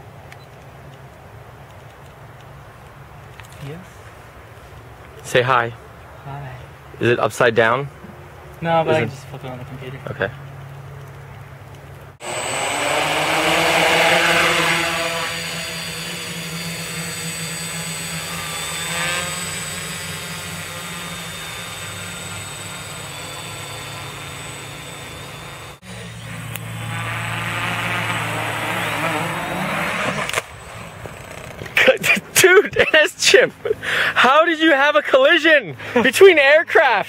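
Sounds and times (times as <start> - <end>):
quadcopter propellers whirring: 3.4 - 37.0.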